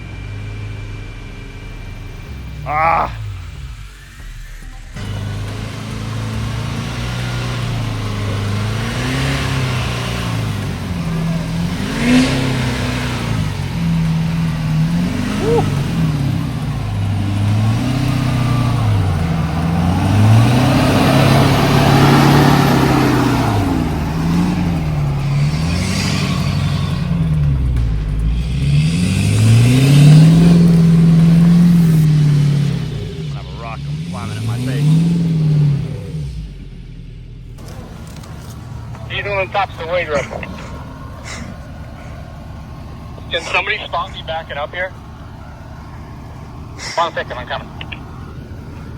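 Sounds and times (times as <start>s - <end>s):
tyre and dirt noise: 0.0s - 36.8s, 37.4s - 48.9s
truck engine revving: 0.0s - 48.9s.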